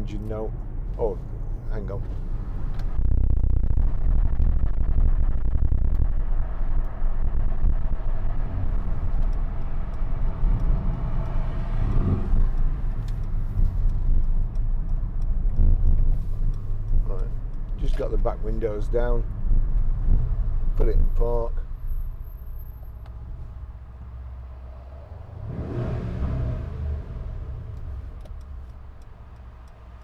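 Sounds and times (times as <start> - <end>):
car engine rumble inside cabin: 0.0 - 30.0
road noise: 0.0 - 30.0.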